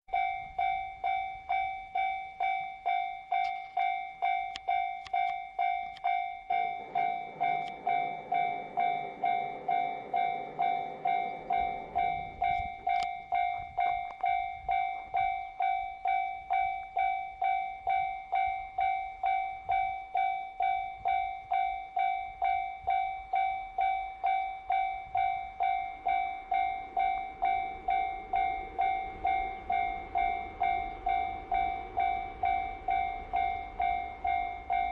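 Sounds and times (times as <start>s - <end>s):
level crossing warning bell ringing: 0.1s - 34.9s
low rumble of passing train: 0.1s - 34.9s.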